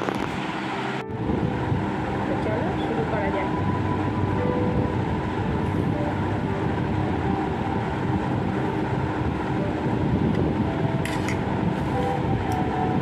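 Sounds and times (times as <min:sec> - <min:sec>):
steady rumbling noise: 0:00.0 - 0:13.0
faint steady tones: 0:00.5 - 0:13.0.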